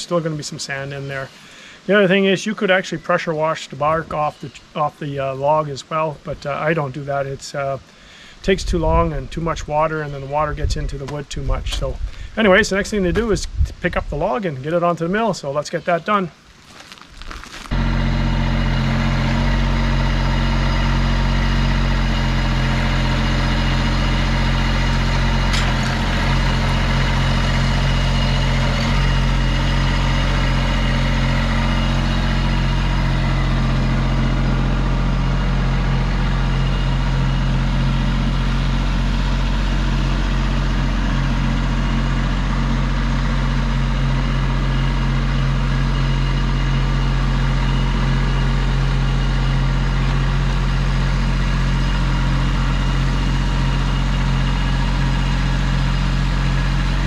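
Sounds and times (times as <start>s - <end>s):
tractor diesel engine running: 0.0s - 15.9s, 16.7s - 57.0s.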